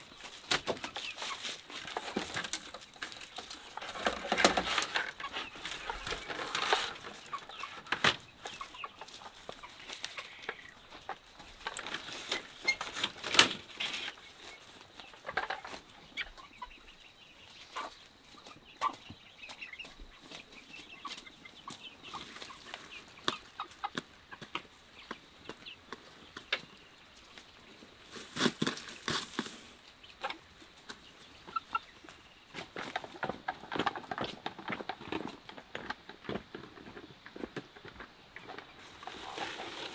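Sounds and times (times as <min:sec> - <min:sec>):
chickens clucking: 0:00.0 - 0:39.9
chickens scratching and shuffling: 0:00.0 - 0:39.9.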